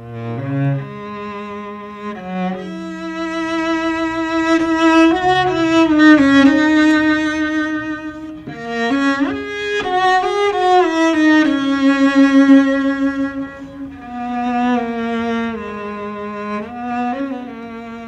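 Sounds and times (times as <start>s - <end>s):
orchestral strings melody: 0.0s - 18.0s.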